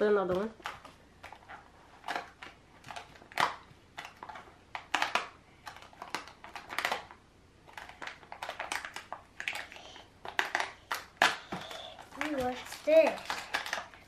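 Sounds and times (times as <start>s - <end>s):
plastic packaging crackling: 0.4s - 14.0s.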